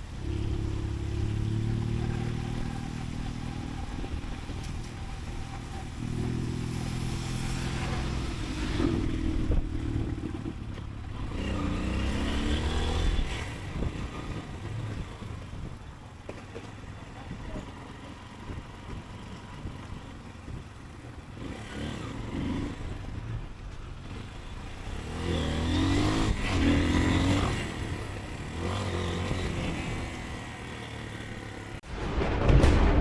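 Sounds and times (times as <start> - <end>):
motorcycle engine running: 0.0 - 31.8
road and wind noise: 0.0 - 33.0.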